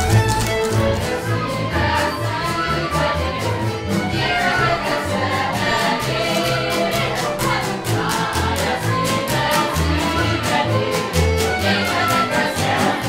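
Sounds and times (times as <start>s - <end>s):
bowed double bass: 0.0s - 13.0s
fiddle: 0.0s - 13.0s
small plucked string instrument: 0.0s - 13.0s
group of voices singing: 1.0s - 13.0s.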